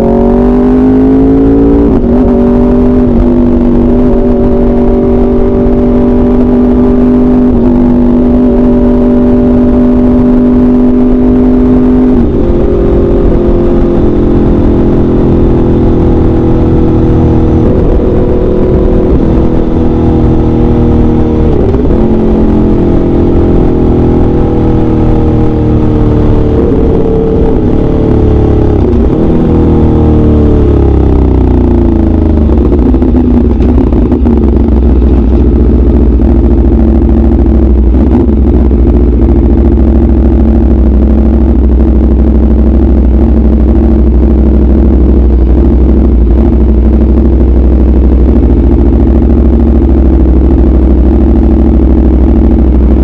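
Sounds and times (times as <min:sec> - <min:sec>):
motorcycle engine cruising: 0:00.0 - 0:53.0
heavy wind rumble: 0:01.1 - 0:10.9, 0:12.0 - 0:53.0.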